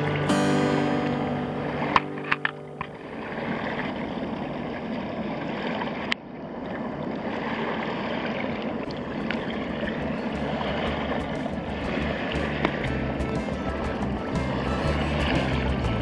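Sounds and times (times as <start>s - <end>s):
water at tide pool: 0.0s - 16.0s
wind: 0.0s - 16.0s.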